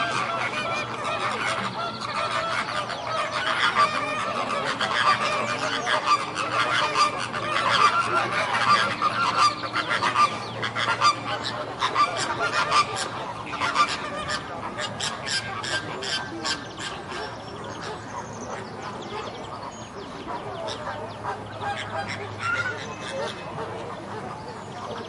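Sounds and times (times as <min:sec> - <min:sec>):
flamingos honking: 0:00.0 - 0:25.0.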